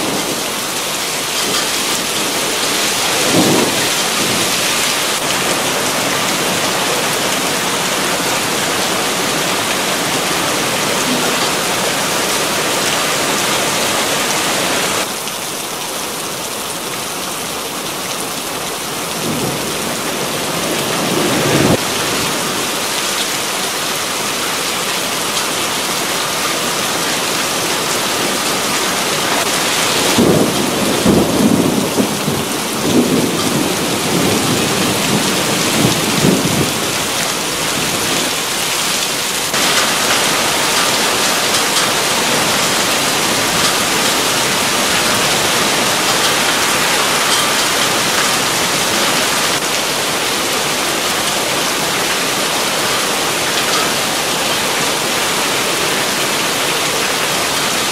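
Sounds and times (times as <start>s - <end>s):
heavy rain on a street: 0.0s - 57.9s.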